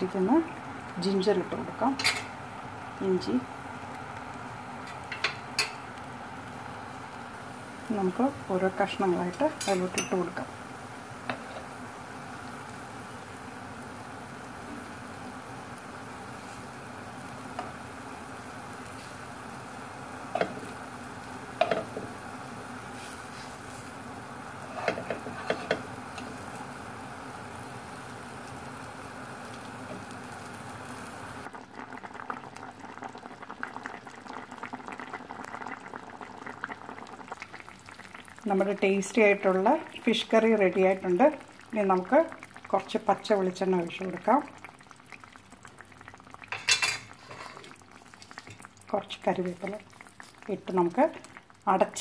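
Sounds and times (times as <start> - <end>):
curry bubbling in a pot: 0.0 - 52.0.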